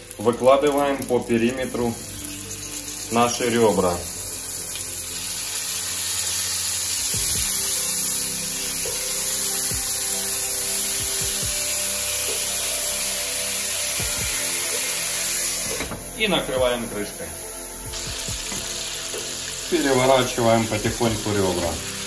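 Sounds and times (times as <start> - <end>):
ribs sizzling in hot oil: 0.0 - 22.0.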